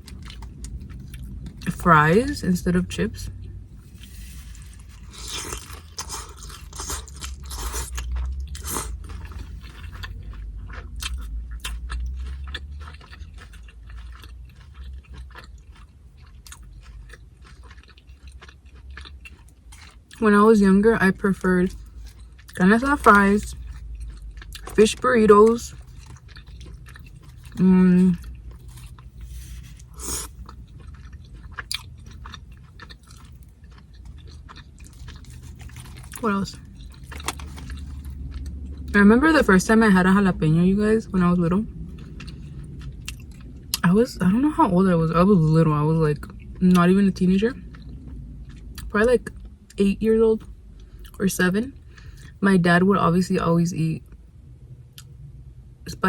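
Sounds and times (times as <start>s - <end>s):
crunching and chewing chips: 0.0s - 40.6s, 41.2s - 52.4s.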